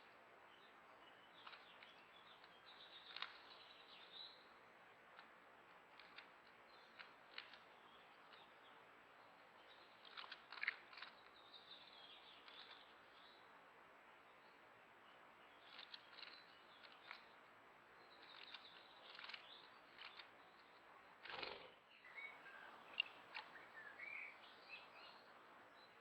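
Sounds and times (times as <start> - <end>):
background hiss: 0.0 - 26.0
songbirds chirping: 0.0 - 26.0.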